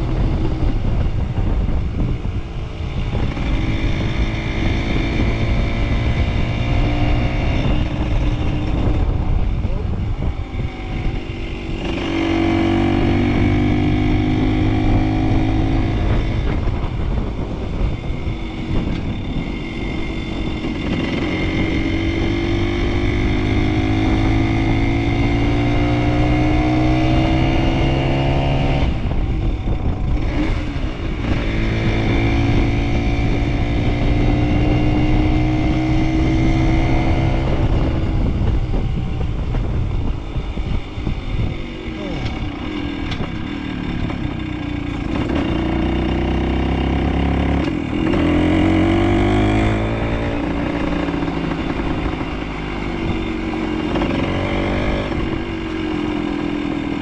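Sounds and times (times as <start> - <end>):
small motorcycle engine revving: 0.0 - 57.0.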